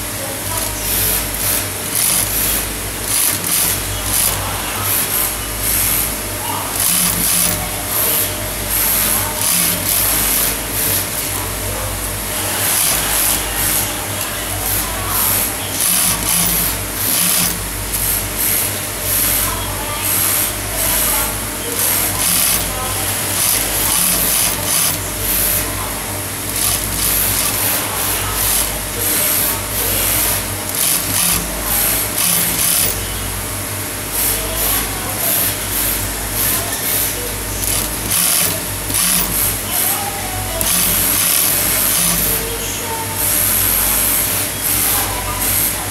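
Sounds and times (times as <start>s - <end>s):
sewing machine stitching: 0.0s - 11.4s, 12.2s - 33.0s, 34.2s - 42.5s.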